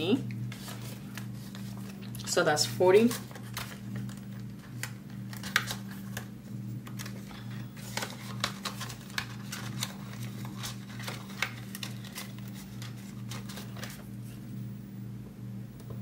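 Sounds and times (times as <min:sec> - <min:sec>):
steady low hum: 0:00.0 - 0:16.0
paper money crinkling: 0:00.5 - 0:14.3.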